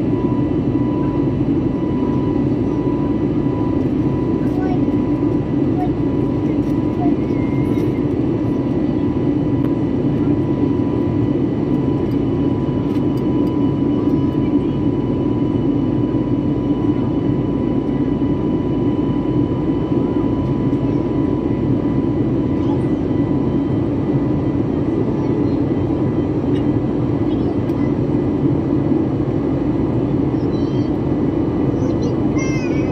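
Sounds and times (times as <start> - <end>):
aircraft cabin engine rush: 0.0 - 32.9.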